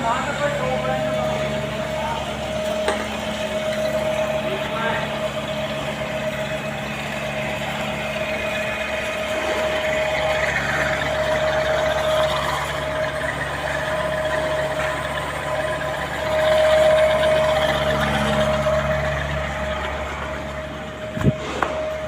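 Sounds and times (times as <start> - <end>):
machinery humming: 0.0 - 22.0
machinery whine: 0.0 - 22.0.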